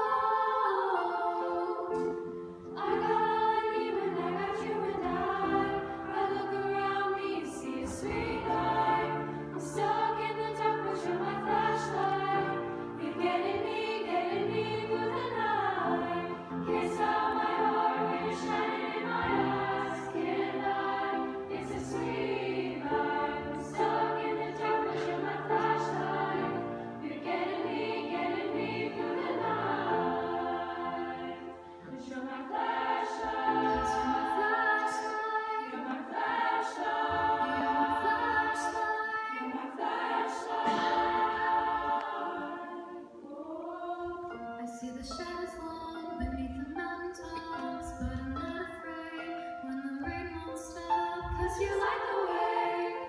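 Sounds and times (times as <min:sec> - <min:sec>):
choir of women singing: 0:00.0 - 0:53.0.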